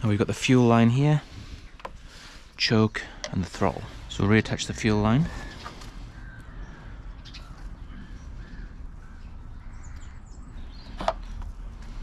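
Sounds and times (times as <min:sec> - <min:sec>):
low rumble of wind: 0:00.0 - 0:12.0
faint bird calls: 0:01.6 - 0:12.0.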